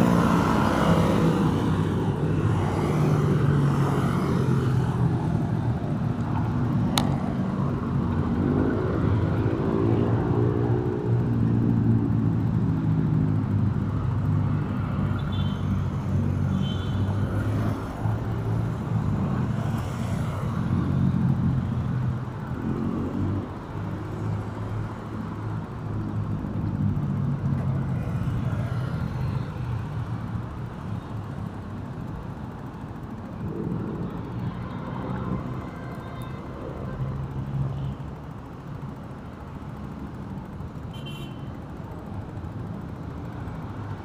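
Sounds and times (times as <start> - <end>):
highway traffic: 0.0 - 44.0.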